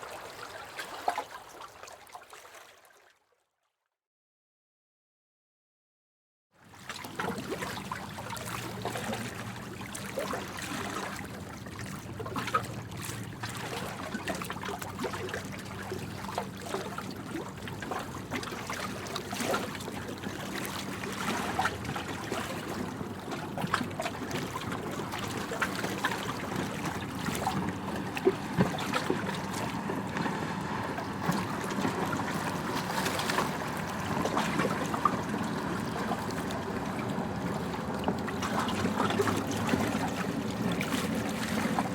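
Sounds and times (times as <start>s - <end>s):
small waves lapping: 0.0s - 3.4s, 6.6s - 41.9s
small water splashes: 0.0s - 3.7s, 6.6s - 41.9s.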